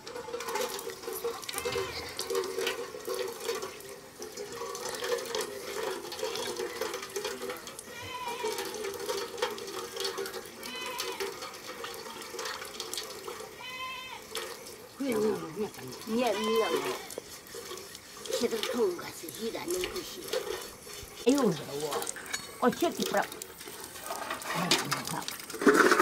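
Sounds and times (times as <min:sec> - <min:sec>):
water running and splashing: 0:00.0 - 0:26.0.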